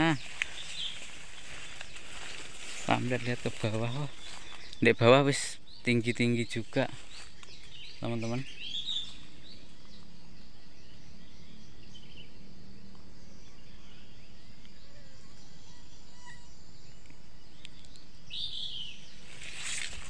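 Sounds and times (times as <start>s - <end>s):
birds chirping: 0.0s - 20.0s
high insect drone: 0.0s - 20.0s.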